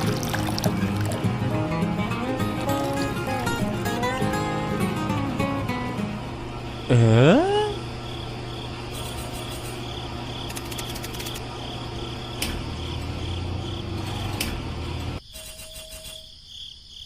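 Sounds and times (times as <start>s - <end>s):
crickets chirping: 0.0s - 1.4s, 2.1s - 17.0s.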